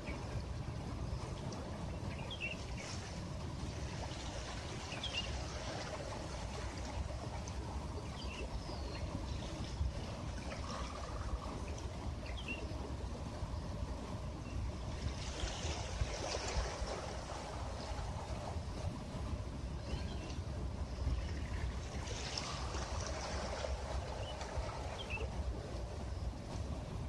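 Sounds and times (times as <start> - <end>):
waves washing on shore: 0.0 - 27.0.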